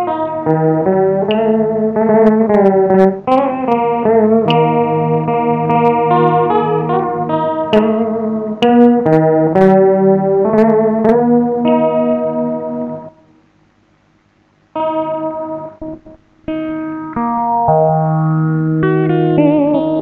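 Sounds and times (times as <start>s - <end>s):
electric guitar melody: 0.0s - 13.3s, 14.7s - 20.0s.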